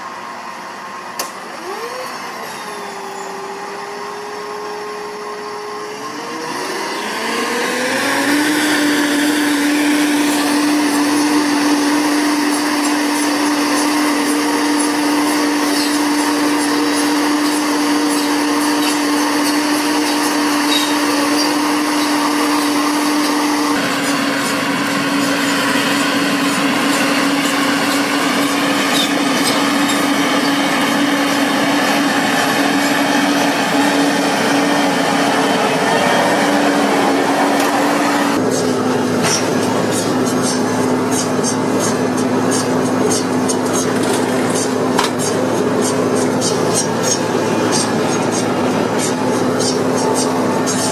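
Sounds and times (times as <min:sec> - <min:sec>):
harvester engine whining: 0:00.0 - 0:50.9
machinery rattling: 0:06.5 - 0:50.9.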